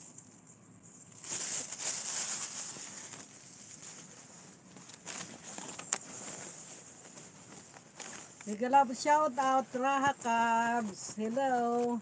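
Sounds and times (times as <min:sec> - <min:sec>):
plastic glove crinkling: 0:01.0 - 0:12.0.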